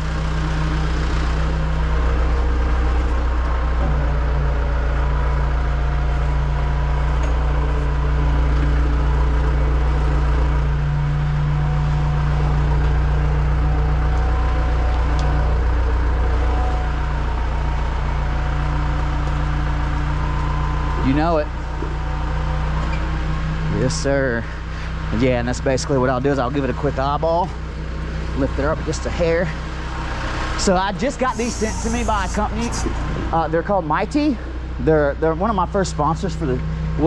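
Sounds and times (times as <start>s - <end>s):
diesel truck engine running: 0.0s - 37.0s.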